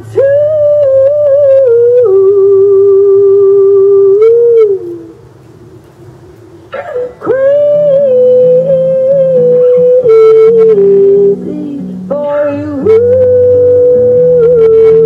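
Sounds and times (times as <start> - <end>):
woman singing a long note: 0.0 - 5.0, 7.2 - 15.0.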